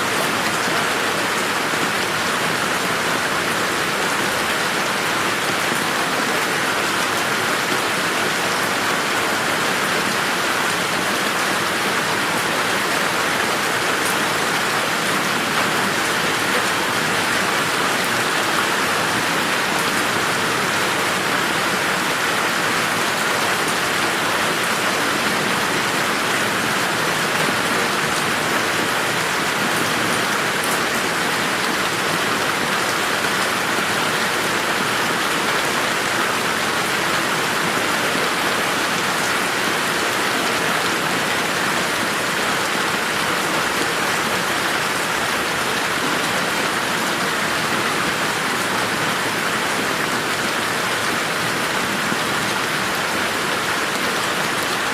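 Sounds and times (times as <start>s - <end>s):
steady rain patter: 0.0s - 54.9s.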